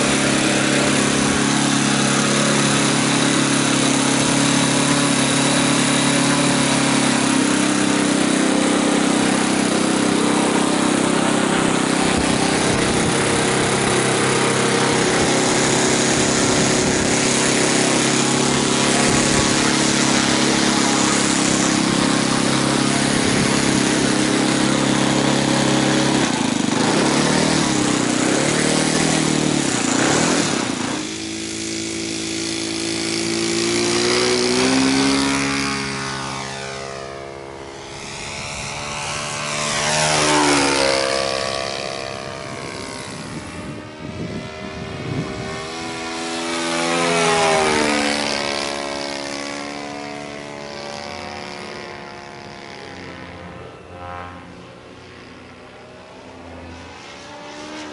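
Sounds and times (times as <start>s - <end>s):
model plane engine at high throttle: 0.0s - 57.9s.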